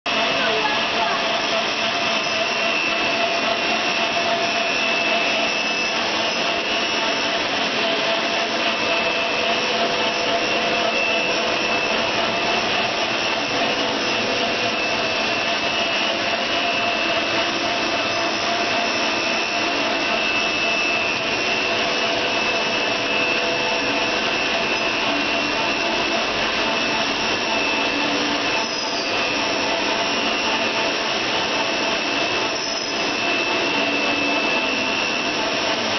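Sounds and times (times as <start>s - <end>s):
machine motors and blower rushing: 0.1s - 35.9s
steady whining tones: 0.1s - 35.9s.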